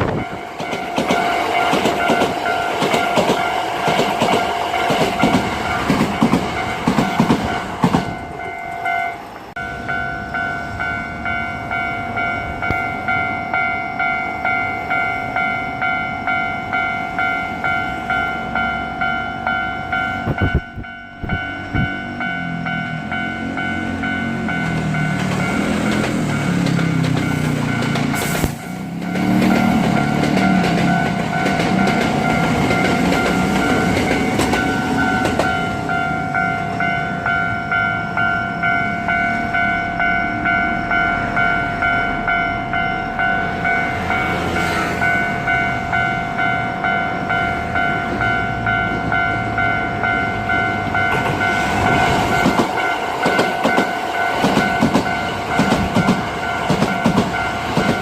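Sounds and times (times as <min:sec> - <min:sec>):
electric train rumbling: 0:00.0 - 0:58.0
level-crossing bell ringing: 0:00.1 - 0:58.0.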